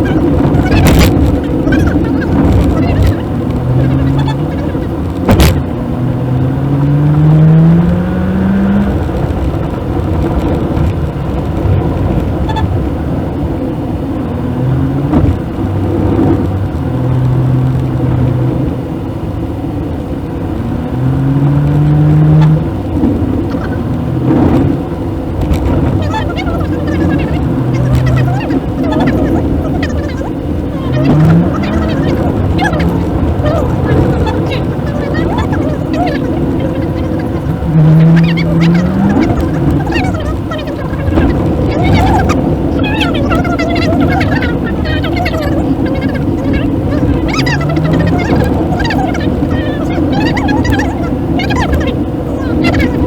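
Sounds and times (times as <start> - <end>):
car engine accelerating: 0.0 - 53.0
road noise inside car: 0.0 - 53.0.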